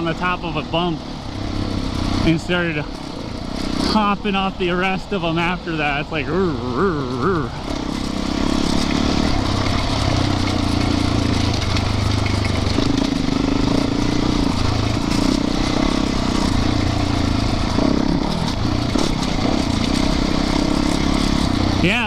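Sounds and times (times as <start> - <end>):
motorcycle engine running: 0.0 - 22.0
rush of riding noise: 0.0 - 22.0.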